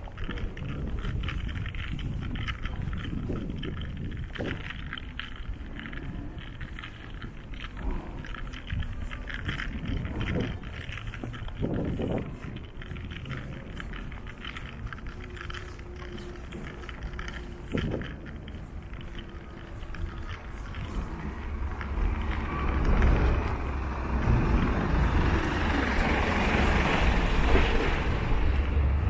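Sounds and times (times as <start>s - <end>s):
tyre noise: 0.0s - 29.0s
vehicle engine rumble: 0.0s - 29.0s.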